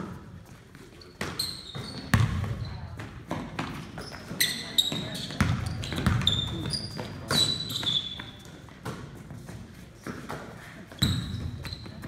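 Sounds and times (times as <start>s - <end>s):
basketballs bouncing on gym floor: 0.0s - 12.0s
sneakers squeaking on court: 0.0s - 12.0s.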